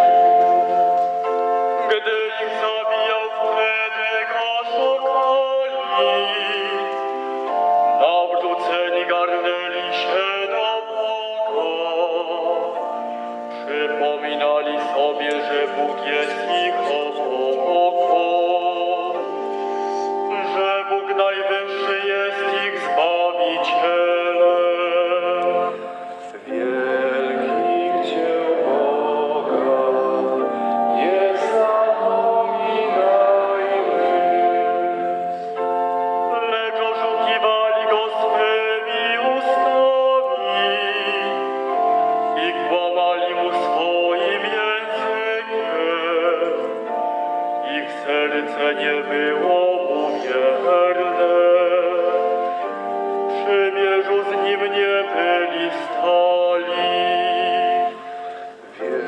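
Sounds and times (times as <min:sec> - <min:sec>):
organ chords: 0:00.0 - 0:59.0
man singing a psalm: 0:01.8 - 0:07.0, 0:07.9 - 0:12.9, 0:13.5 - 0:19.3, 0:20.2 - 0:35.2, 0:36.2 - 0:47.0, 0:47.6 - 0:52.4, 0:53.3 - 0:59.0.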